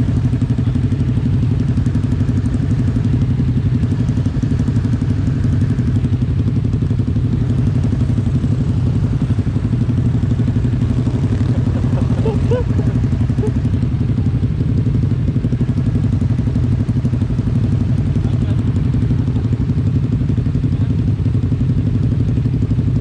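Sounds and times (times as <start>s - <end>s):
motorcycle engine at steady revs: 0.0s - 23.0s.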